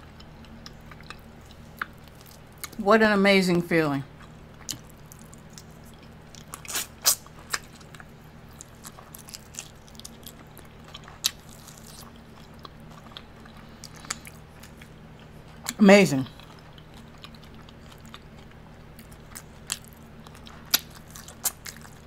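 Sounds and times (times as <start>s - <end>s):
chewing and biting: 0.0s - 2.8s, 4.2s - 22.0s
faint low hum: 0.0s - 22.0s.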